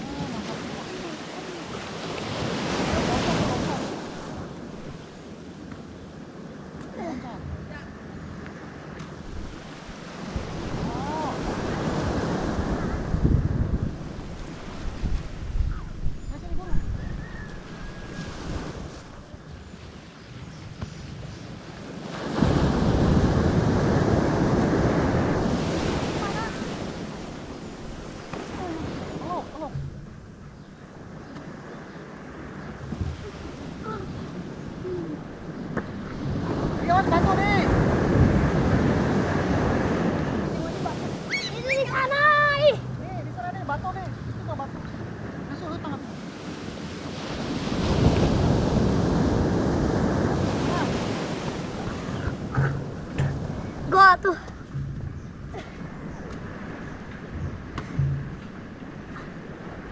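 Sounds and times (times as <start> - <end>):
ocean wave breaking: 0.0 - 59.9
rushing wind: 0.0 - 59.9
sea water: 0.0 - 59.9.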